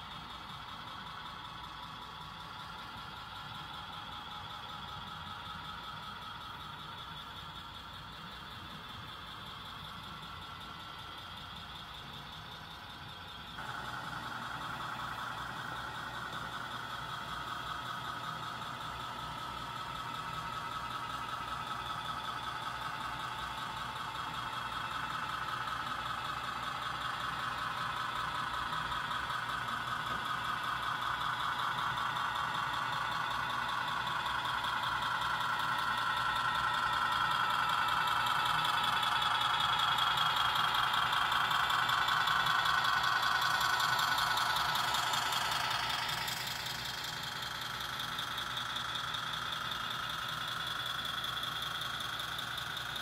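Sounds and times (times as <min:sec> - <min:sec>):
model train humming: 0:00.0 - 0:53.0.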